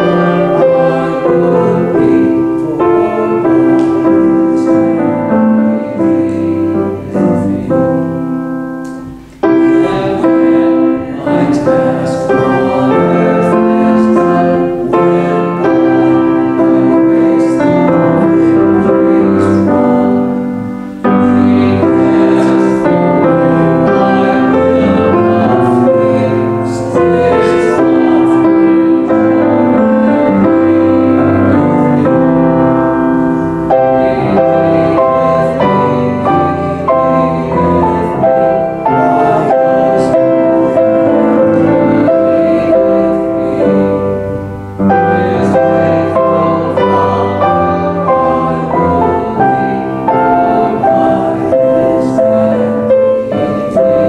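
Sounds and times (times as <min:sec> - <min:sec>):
grand piano playing a hymn: 0:00.0 - 0:54.0.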